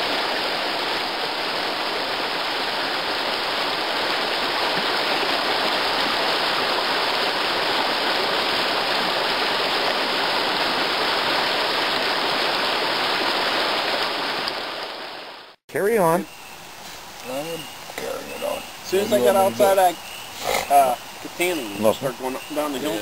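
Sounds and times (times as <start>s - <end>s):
stream rushing over rapids: 0.0s - 23.0s.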